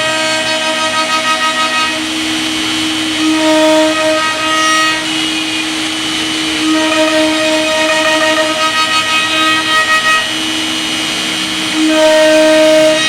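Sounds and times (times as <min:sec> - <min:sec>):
hiss of wood cutting: 0:00.0 - 0:13.0
router spindle whining: 0:00.0 - 0:13.0.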